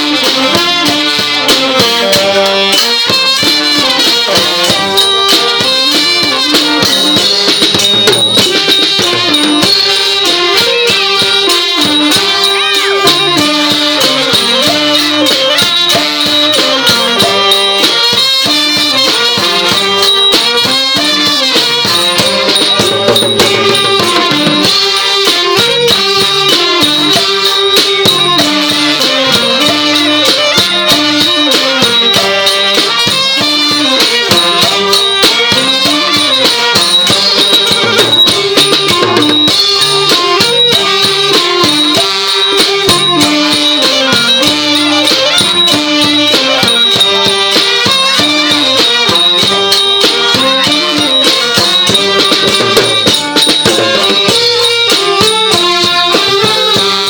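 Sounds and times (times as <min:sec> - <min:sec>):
brass band melody: 0:00.0 - 0:57.0
drums and cymbals beat: 0:00.0 - 0:57.0.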